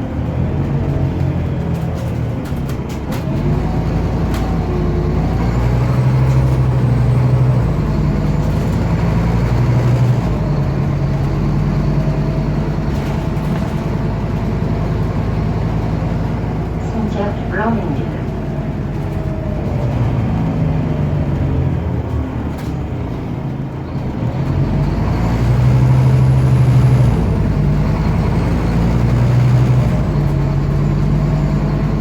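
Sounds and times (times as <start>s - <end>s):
bus engine droning: 0.0s - 32.0s.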